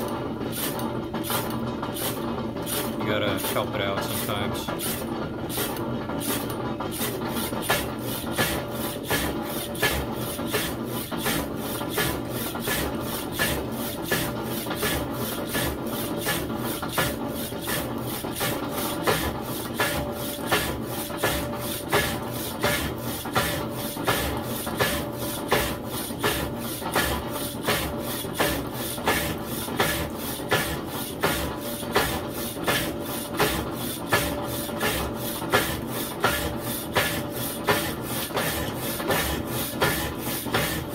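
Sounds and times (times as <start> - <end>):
power hacksaw cutting metal: 0.5 - 40.9.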